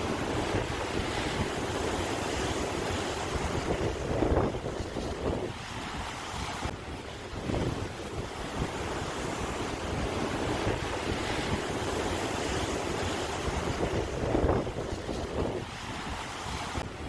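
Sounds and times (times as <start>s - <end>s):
sea waves washing onto shore: 0.0s - 17.0s
wind buffeting microphone: 0.0s - 17.0s.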